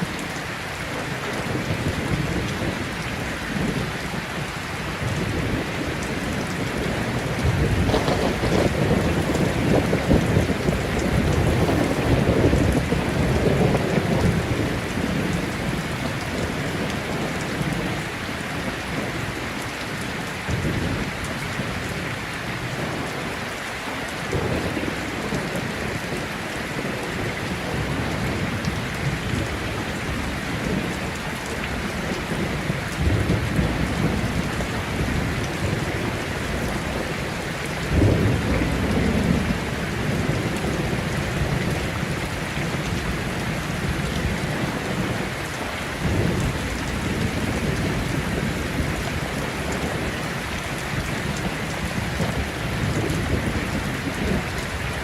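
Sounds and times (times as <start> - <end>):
heavy rain falling: 0.0 - 55.0
thunder rumbling low: 5.0 - 19.3, 24.3 - 55.0.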